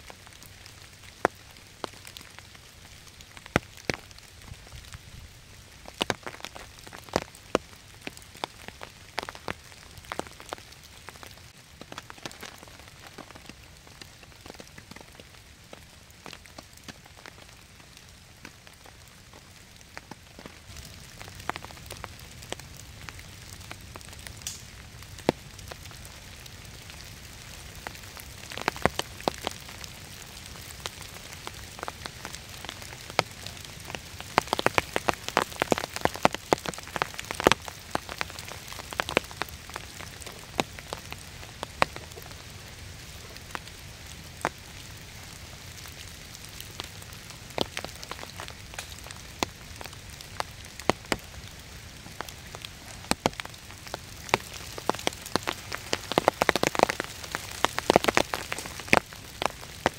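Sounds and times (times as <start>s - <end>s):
rain hissing on a tarp: 0.0s - 59.9s
raindrops ticking on fabric: 0.0s - 59.9s.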